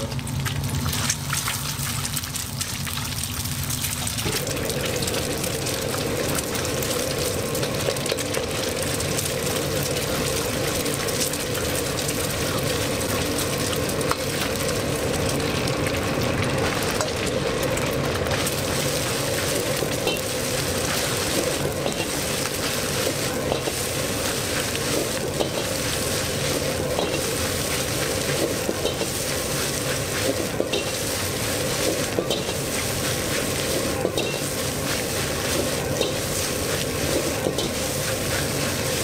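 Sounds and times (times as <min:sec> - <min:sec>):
eggs sizzling in hot oil: 0:00.0 - 0:39.0.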